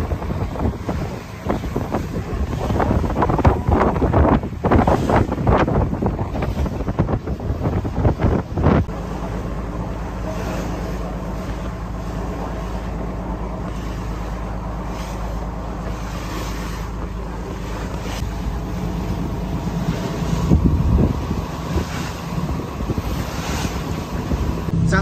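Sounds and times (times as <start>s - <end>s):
boat engine humming: 0.0s - 25.0s
wind buffeting microphone: 0.0s - 25.0s.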